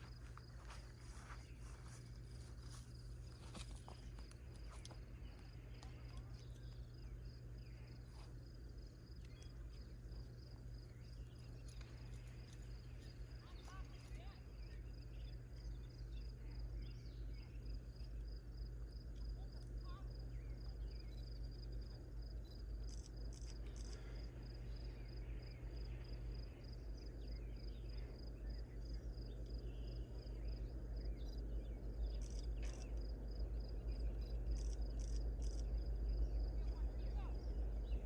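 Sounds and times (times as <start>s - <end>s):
insect chirping: 0.0s - 38.0s.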